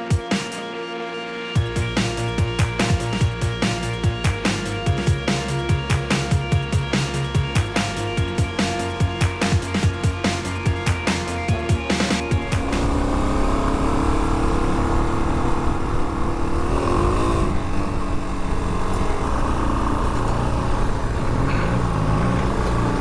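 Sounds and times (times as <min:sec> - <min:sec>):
motorcycle engine running: 0:01.6 - 0:21.4.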